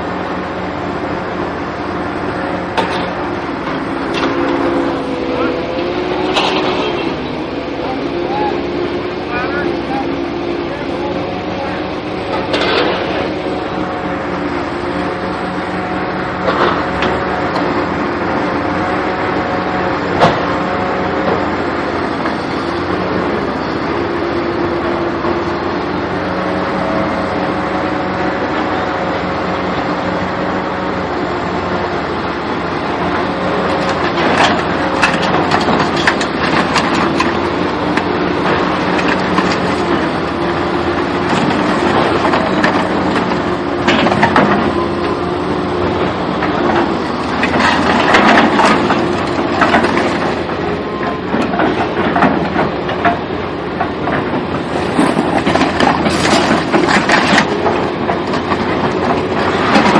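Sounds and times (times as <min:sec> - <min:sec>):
vehicle running: 0:00.0 - 0:59.9.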